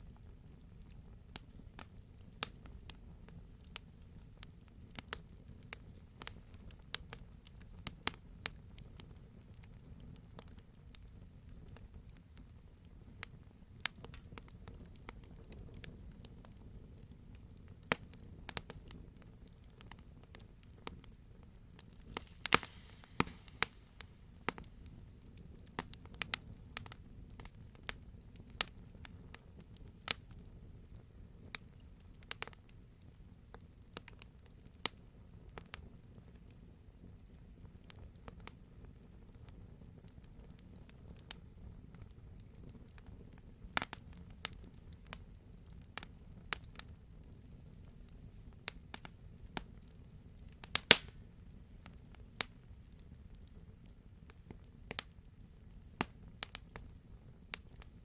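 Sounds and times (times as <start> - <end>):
campfire crackling and popping: 0.0 - 58.0
low rumble of fire: 0.0 - 58.0.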